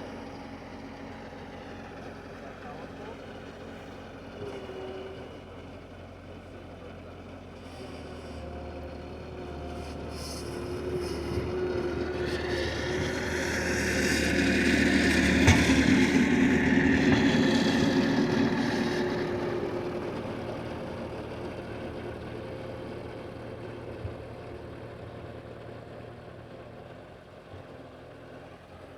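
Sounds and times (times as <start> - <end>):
skid-steer loader engine: 0.0 - 28.9.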